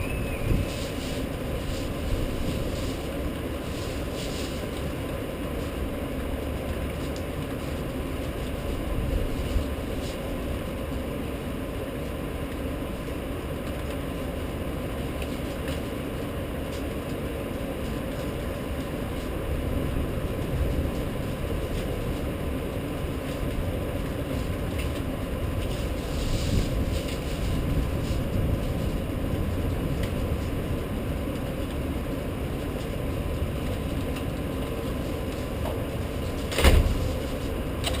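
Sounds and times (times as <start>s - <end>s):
low rumbling noise: 0.0s - 38.0s.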